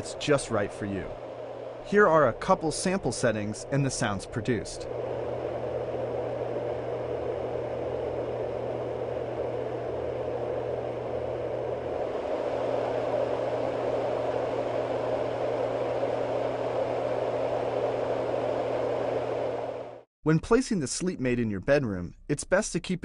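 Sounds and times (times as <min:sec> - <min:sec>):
white noise machine rushing: 0:00.0 - 0:20.1.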